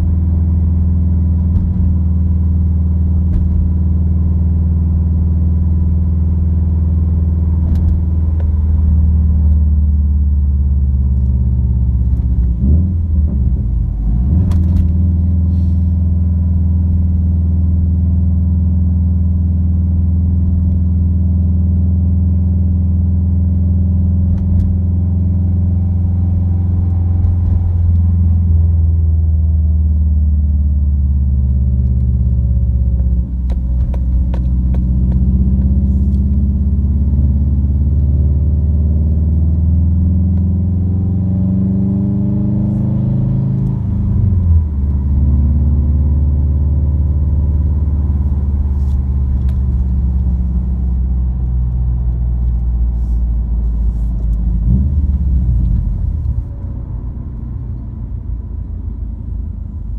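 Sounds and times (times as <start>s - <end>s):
car engine droning in cabin: 0.0s - 59.9s.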